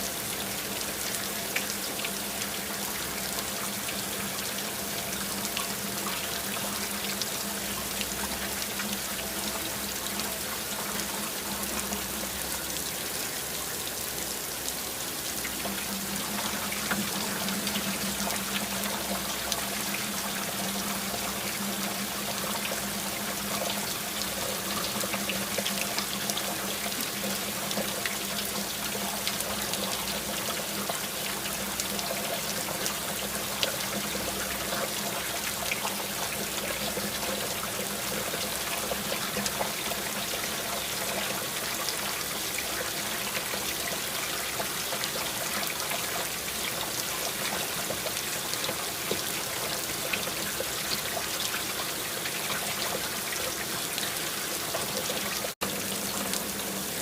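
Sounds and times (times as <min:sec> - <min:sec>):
rain drops ticking: 0:00.0 - 0:57.0
water running and trickling: 0:00.0 - 0:57.0.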